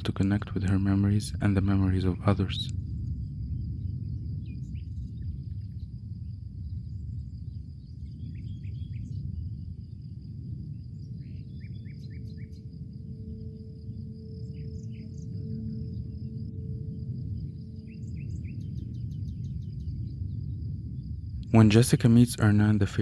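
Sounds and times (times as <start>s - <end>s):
high insect drone: 0.0s - 23.0s
low rumble: 0.0s - 23.0s
low steady tone: 0.0s - 23.0s
bird chirps: 0.4s - 22.4s.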